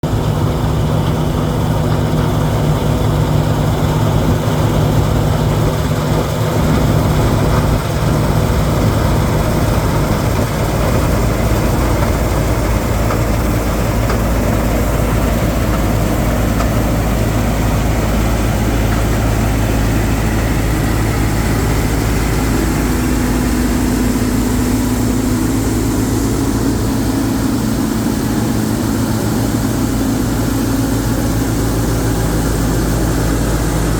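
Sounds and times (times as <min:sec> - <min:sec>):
combine harvester droning: 0:00.0 - 0:33.9.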